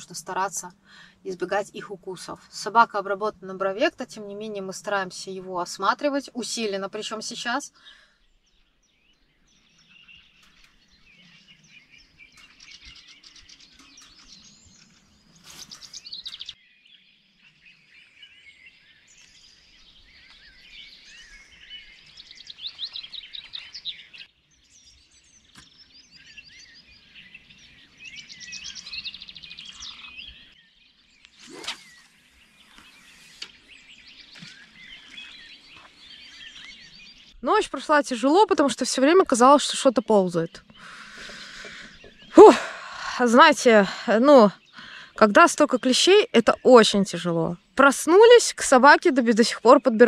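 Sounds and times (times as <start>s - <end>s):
songbirds singing: 0.0s - 50.0s.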